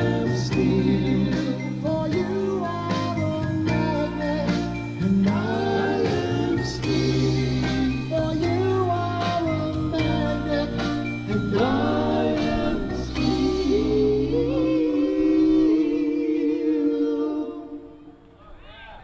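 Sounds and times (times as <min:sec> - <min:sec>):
song with singing and band: 0:00.0 - 0:18.4.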